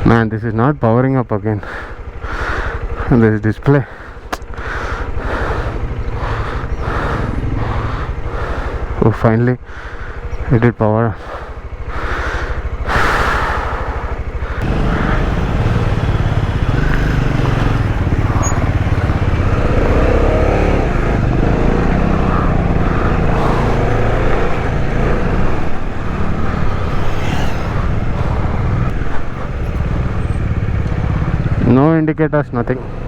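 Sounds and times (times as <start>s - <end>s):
motorcycle engine running: 1.6s - 33.0s.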